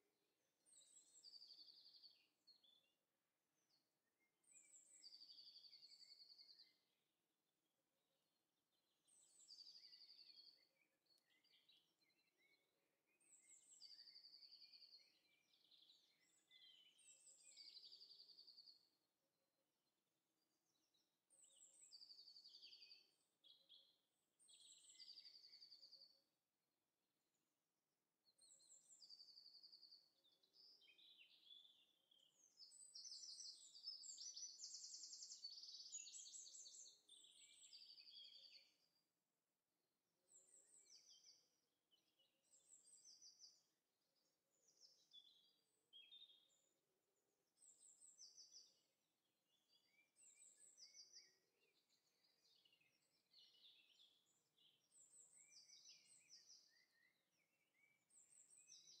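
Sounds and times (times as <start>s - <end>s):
songbird chirping and trilling: 0.7s - 2.9s, 3.6s - 6.9s, 8.8s - 18.9s, 20.6s - 26.2s, 28.4s - 39.0s, 40.3s - 46.8s, 47.6s - 48.9s, 49.6s - 59.0s.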